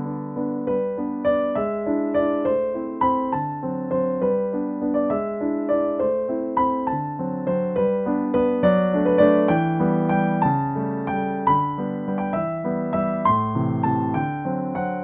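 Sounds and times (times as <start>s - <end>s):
calm piano melody: 0.0s - 15.0s.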